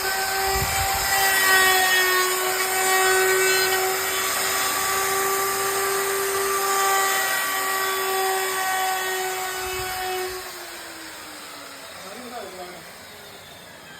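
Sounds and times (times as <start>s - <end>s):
hiss of router cutting wood: 0.0s - 13.9s
router motor whine: 0.0s - 13.9s.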